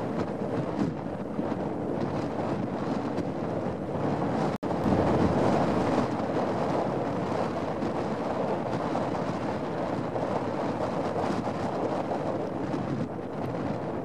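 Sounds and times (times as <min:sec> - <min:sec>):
choppy water: 0:00.0 - 0:14.0
wind buffeting microphone: 0:00.0 - 0:14.0.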